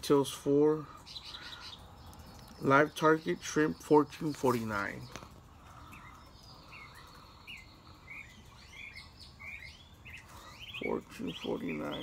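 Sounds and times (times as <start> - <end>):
faint outdoor background noise: 0.0 - 12.0
small birds chirping: 0.0 - 12.0.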